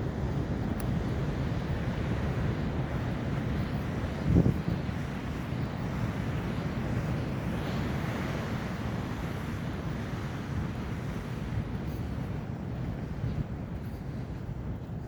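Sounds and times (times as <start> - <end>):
ocean surf rumbling: 0.0 - 15.0
wind buffeting microphone: 0.0 - 15.0.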